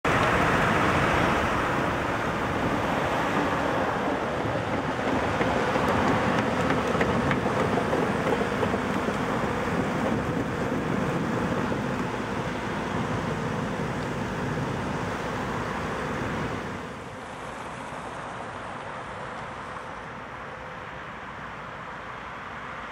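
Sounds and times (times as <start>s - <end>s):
road traffic passing: 0.0s - 22.9s.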